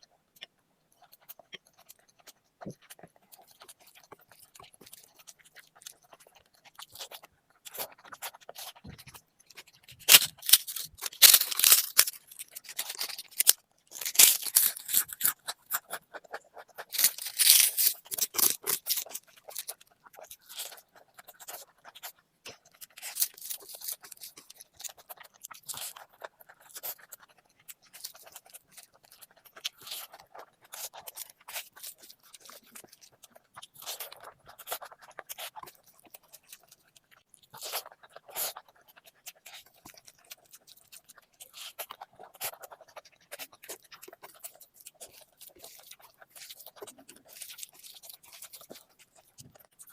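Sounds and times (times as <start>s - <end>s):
mouth clicks and crunches: 0.3s - 49.9s
person chewing: 0.3s - 49.9s.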